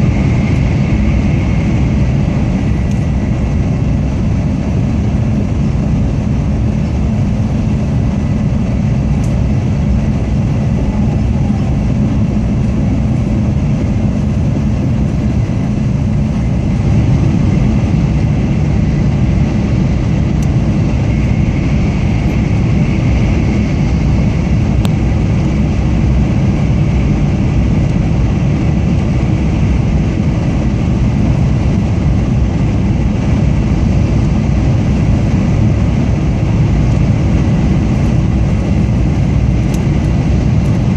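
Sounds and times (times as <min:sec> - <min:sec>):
train running noise inside carriage: 0:00.0 - 0:40.9.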